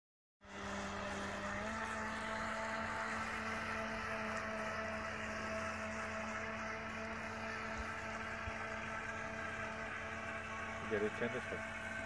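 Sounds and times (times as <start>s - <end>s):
jet boat motor whining: 0.4s - 12.0s.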